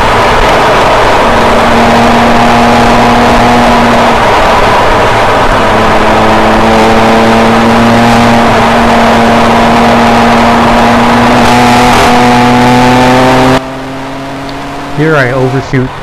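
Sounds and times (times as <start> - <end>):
car engine accelerating: 0.0 - 16.0
wind and road noise: 0.0 - 16.0.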